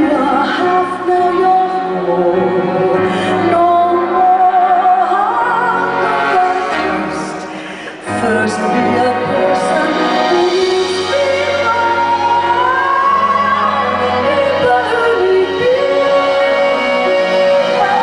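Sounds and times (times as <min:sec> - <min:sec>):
held accompaniment: 0:00.0 - 0:18.0
woman singing a slow ballad: 0:00.0 - 0:18.0.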